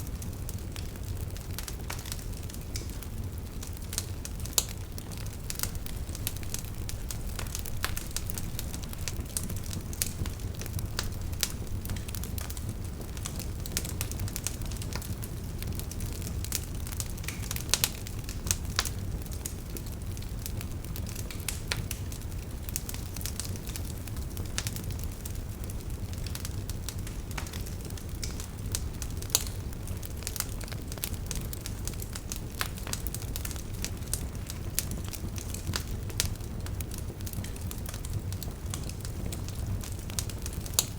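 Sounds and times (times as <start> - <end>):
fire rumbling: 0.0 - 40.9
wood fire crackles and pops: 0.0 - 40.9.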